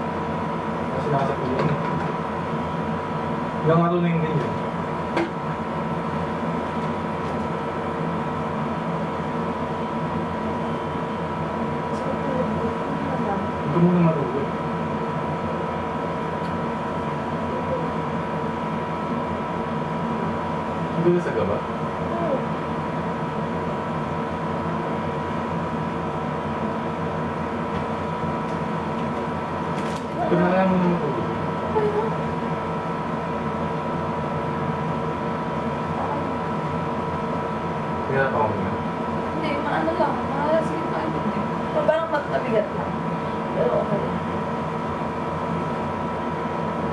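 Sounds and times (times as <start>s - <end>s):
steady machine hum: 0.0s - 46.9s.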